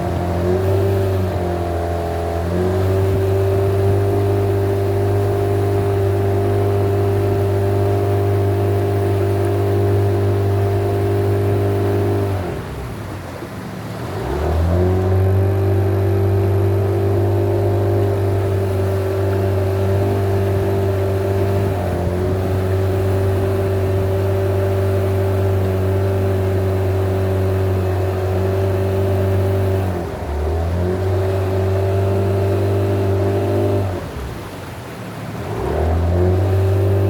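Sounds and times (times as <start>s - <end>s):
boat motor running: 0.0s - 37.0s.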